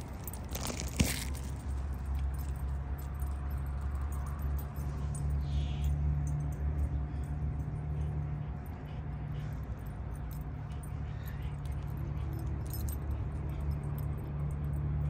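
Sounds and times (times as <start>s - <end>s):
metal dog tags jingling: 0.0s - 8.1s, 9.4s - 15.0s
steady low rumble: 0.0s - 15.0s.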